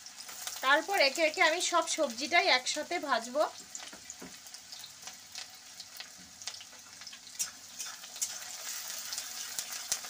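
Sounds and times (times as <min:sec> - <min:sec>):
oil crackling and popping: 0:00.0 - 0:10.0
onions sizzling in hot oil: 0:00.0 - 0:10.0.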